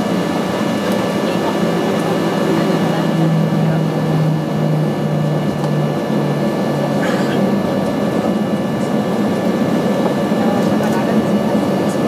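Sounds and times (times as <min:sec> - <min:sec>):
jet engines humming: 0:00.0 - 0:12.0.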